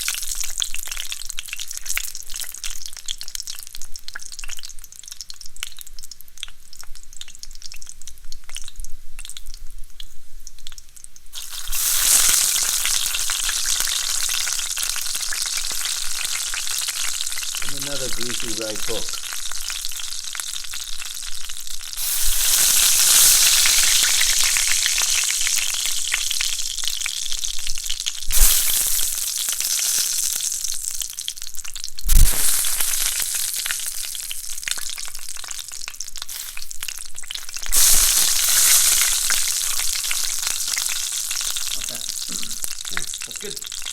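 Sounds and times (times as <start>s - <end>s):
bacon sizzling in a pan: 0.0s - 43.9s.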